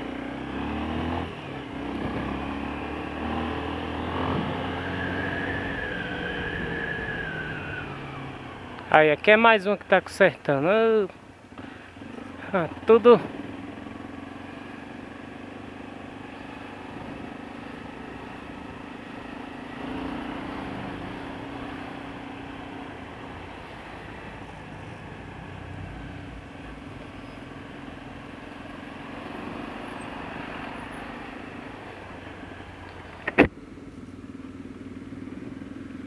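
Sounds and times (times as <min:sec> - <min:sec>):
motorcycle engine running: 0:00.0 - 0:07.2, 0:07.9 - 0:36.0
road and wind noise: 0:00.0 - 0:36.0.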